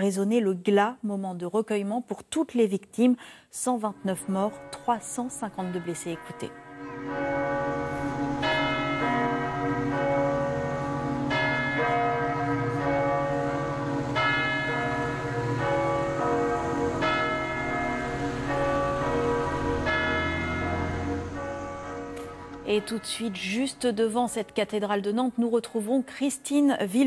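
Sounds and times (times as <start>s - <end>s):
church bell tolling: 3.7s - 25.8s.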